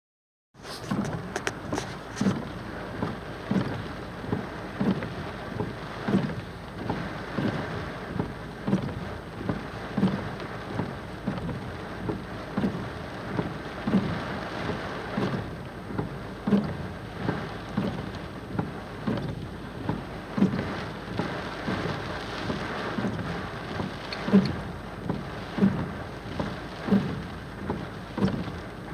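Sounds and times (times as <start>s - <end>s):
rain falling: 0.9s - 28.9s.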